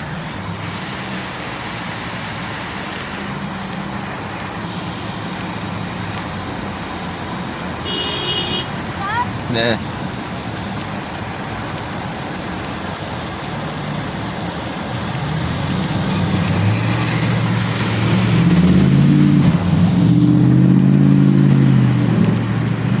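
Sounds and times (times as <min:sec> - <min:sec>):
car engine: 0:00.0 - 0:23.0.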